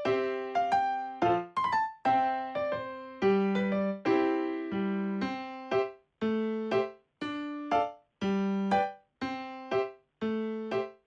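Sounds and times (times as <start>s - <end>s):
electric piano melody: 0.0s - 11.0s.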